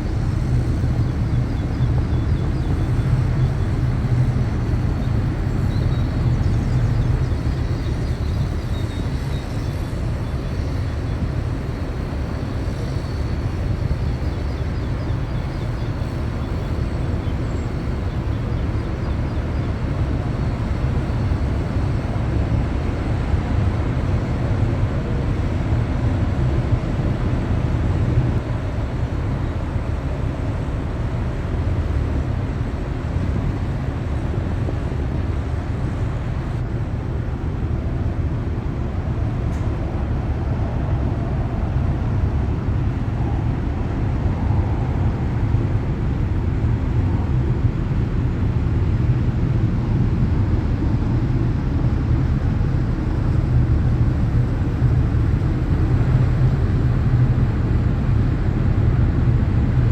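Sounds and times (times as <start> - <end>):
ship engine rumble: 0.0 - 59.7.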